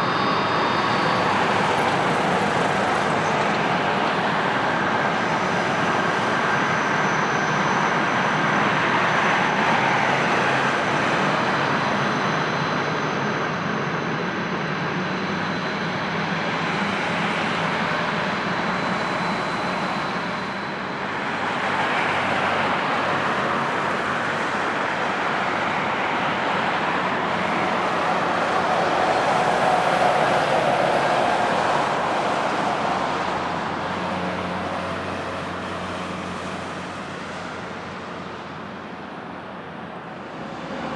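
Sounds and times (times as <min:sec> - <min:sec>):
high-pitched engine whine: 0:00.0 - 0:40.9
jet airliner passing low: 0:00.0 - 0:40.9.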